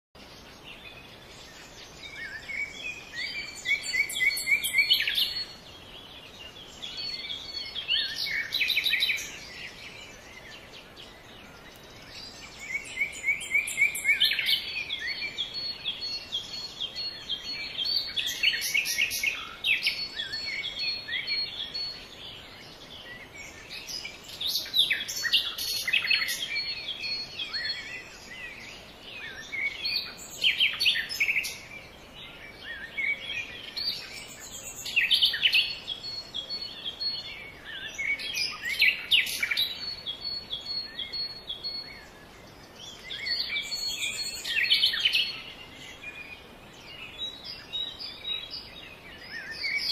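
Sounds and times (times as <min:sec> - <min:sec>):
birds chirping: 0:00.2 - 0:49.9.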